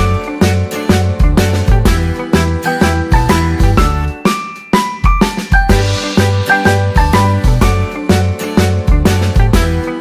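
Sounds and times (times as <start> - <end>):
upbeat music with tinkling melody: 0.0 - 10.0.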